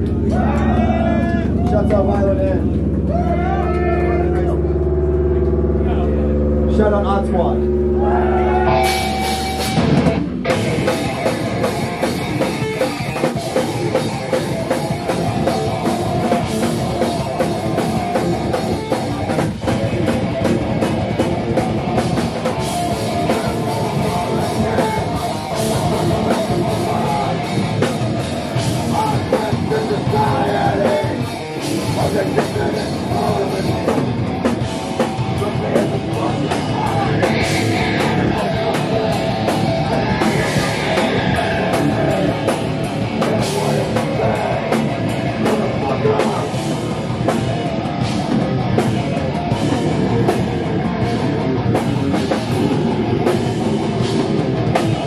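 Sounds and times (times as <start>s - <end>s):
distorted electric guitars: 0.0s - 55.0s
drum kit playing hard: 8.3s - 55.0s.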